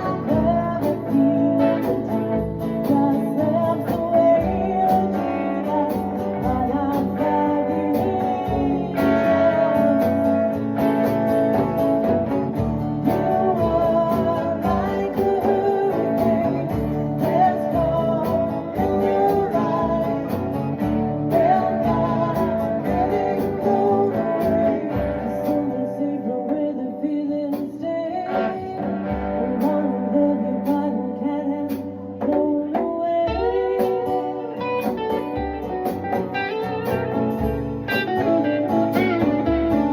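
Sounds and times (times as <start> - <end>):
guitar with bending notes: 0.0 - 39.9.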